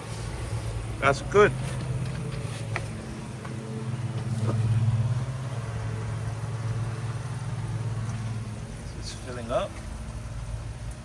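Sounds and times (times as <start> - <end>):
water pump motor humming: 0.0 - 11.0.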